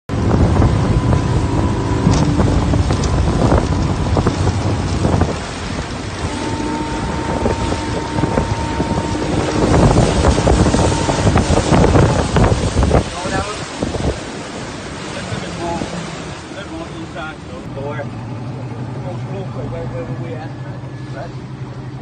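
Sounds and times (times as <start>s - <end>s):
motorboat engine running: 0.1s - 22.0s
wind buffeting microphone: 0.1s - 22.0s.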